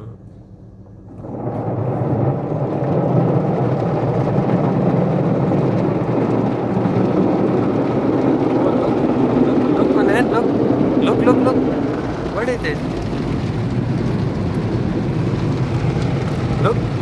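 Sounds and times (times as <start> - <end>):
car wash machinery rushing: 0.0 - 17.0.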